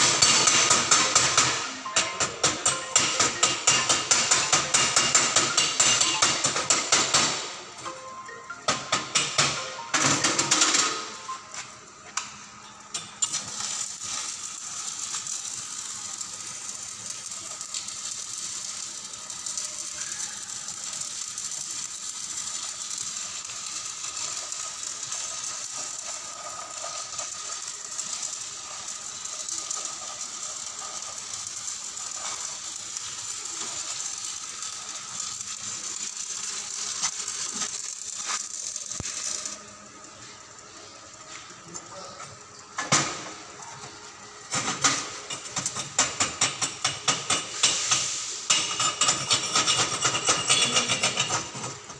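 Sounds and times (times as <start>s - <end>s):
welding arc crackling and sizzling: 0.0s - 51.9s.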